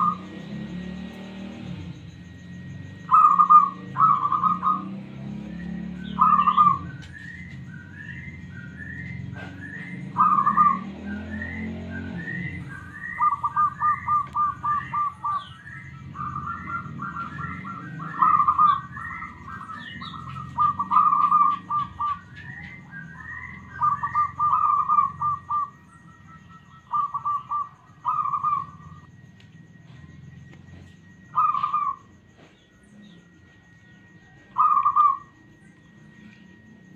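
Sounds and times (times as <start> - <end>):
doves cooing trilled coos: 0.0 - 36.9
high rising bird chirp: 0.0 - 36.9.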